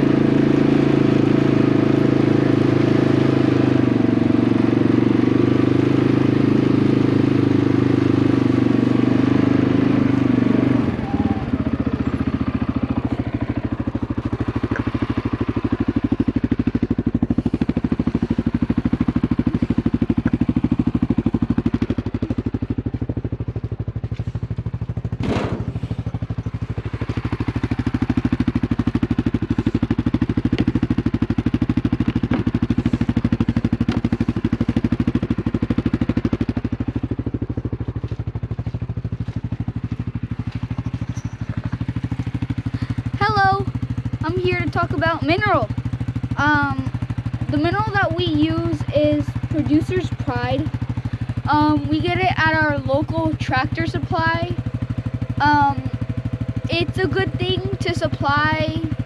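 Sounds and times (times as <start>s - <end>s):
engine idling: 0.0s - 59.0s
quad bike engine running: 0.0s - 59.0s.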